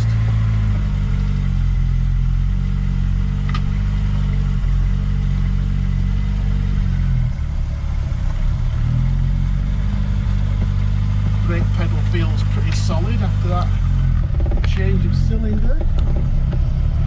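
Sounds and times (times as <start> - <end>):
small car engine running: 0.0 - 17.0.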